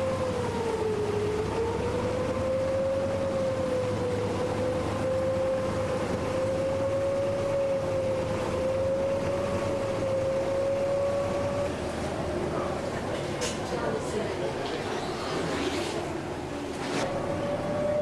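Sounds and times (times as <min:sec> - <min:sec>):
boat engine droning: 0:00.0 - 0:18.0
rush of wind and water: 0:00.0 - 0:18.0.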